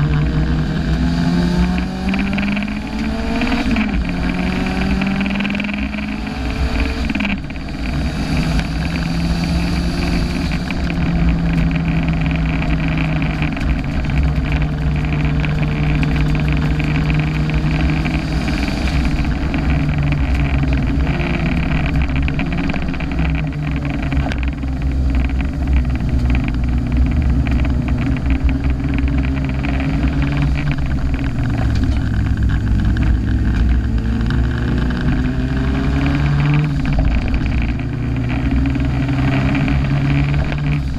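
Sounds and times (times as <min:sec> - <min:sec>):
road and wind rumble: 0:00.0 - 0:40.9
turbocharged car engine pulling hard: 0:00.0 - 0:40.9.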